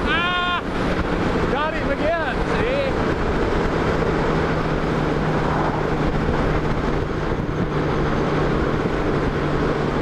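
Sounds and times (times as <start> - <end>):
motorcycle engine humming: 0.0 - 10.0
wind and road noise: 0.0 - 10.0.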